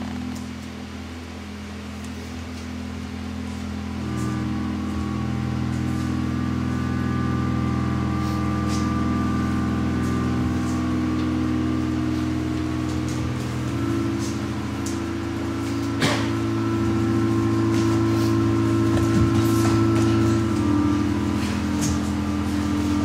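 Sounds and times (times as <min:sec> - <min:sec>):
droning music with held tones: 0:00.0 - 0:23.0.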